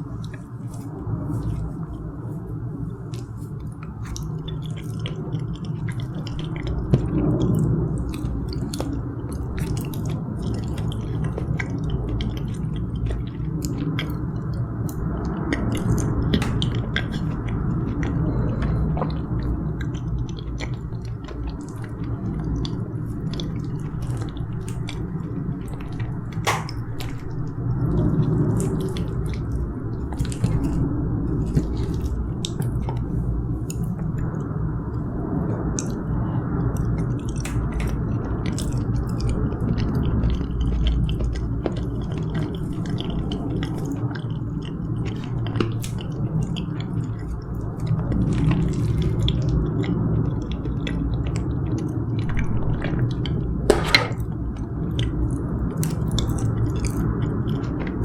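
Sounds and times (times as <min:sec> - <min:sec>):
close chewing of soft food: 0:00.0 - 0:58.0
low background rumble: 0:00.0 - 0:58.0.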